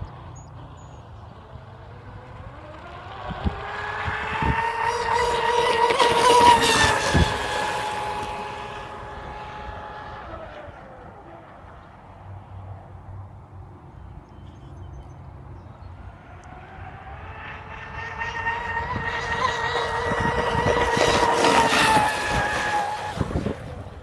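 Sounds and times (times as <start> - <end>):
electric boat motors whining: 0.2 - 12.0, 15.3 - 24.0.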